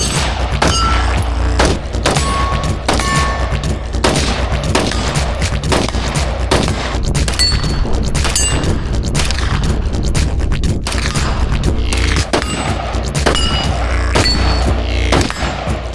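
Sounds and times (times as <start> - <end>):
rapid gunshots: 0.0 - 9.7, 10.8 - 15.9
music with heavy bass: 0.0 - 15.9.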